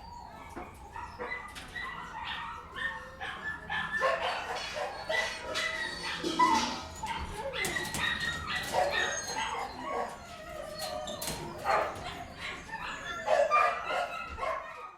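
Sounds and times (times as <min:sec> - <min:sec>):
dogs barking: 0:00.0 - 0:14.9
dogs yipping and whining: 0:00.0 - 0:14.9.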